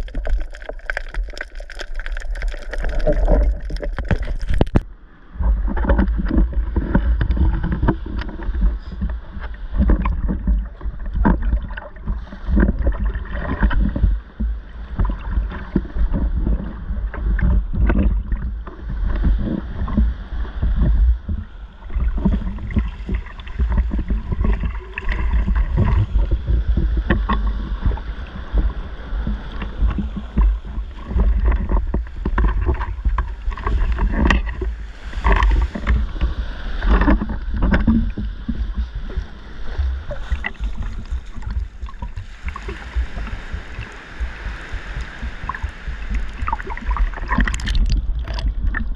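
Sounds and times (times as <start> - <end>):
low rumble: 0.0 - 48.9
small waves breaking: 0.0 - 48.9
water splashing and sloshing: 0.0 - 48.9.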